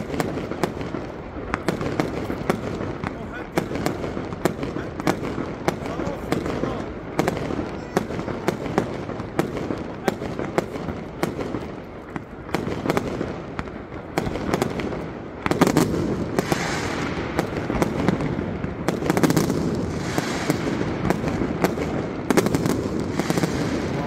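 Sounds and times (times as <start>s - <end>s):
fireworks crackling: 0.0s - 24.0s
volley of firework bangs: 0.0s - 24.0s.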